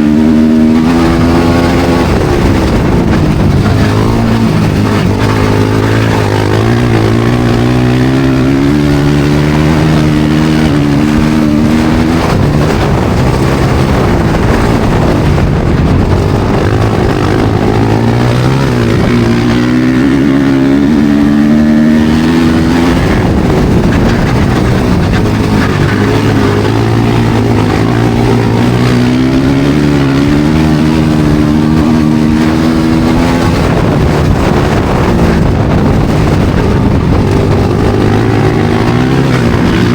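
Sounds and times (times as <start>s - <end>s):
constant rush of noise: 0.0s - 39.9s
motorcycle engines racing: 0.0s - 39.9s.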